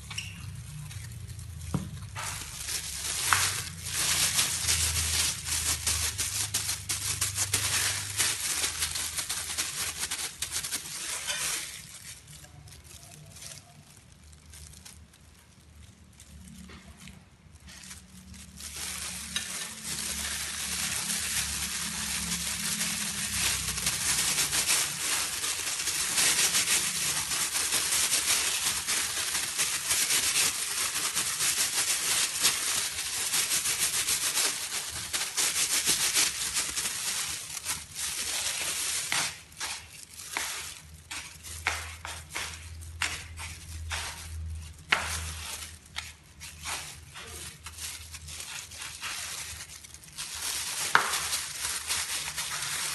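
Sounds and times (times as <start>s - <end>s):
plastic glove crinkling: 0.0s - 52.9s.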